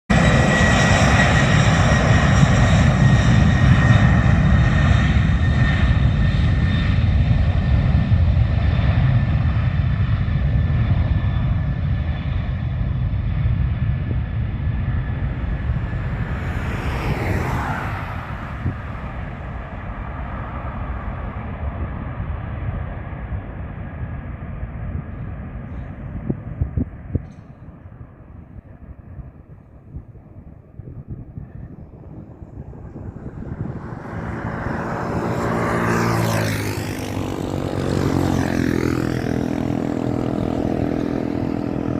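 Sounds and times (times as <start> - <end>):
jet engines rumbling and whining: 0.1 - 41.9.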